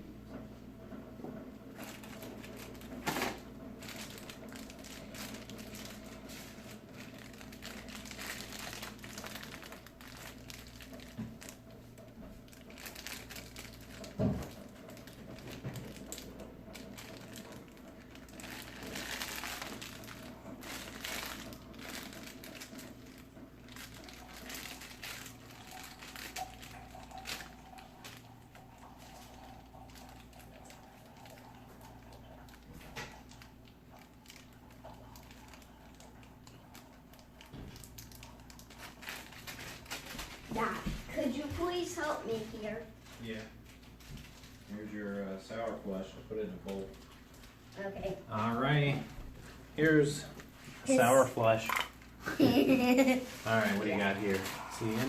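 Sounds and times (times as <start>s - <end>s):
plastic packaging crinkling: 1.7s - 40.8s, 43.0s - 44.8s, 50.6s - 55.0s.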